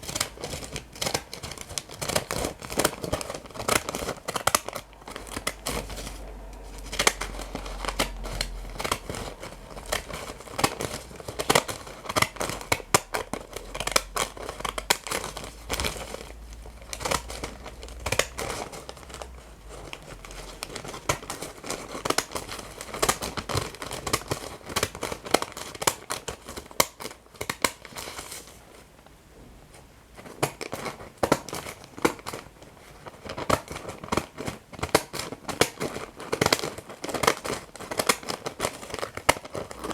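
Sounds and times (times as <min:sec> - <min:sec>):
scissors snipping paper: 0:00.0 - 0:28.4, 0:33.2 - 0:39.9
paper crinkling and tearing: 0:00.0 - 0:28.9, 0:30.2 - 0:39.9.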